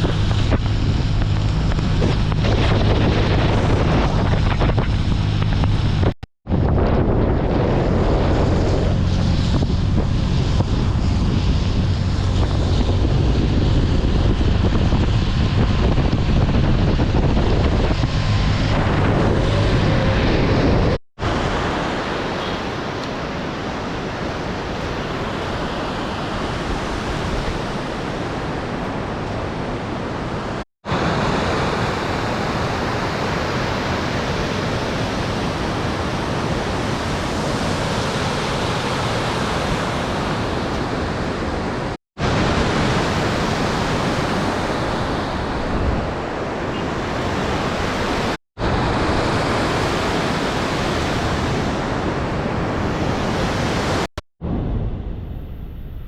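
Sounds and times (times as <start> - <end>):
steady rushing noise: 0.0 - 56.0
wind rumble on microphone: 0.0 - 56.0.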